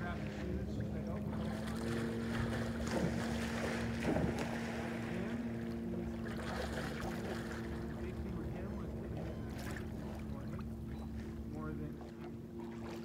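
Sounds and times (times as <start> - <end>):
distant motorboat engine drone: 0.0 - 13.0.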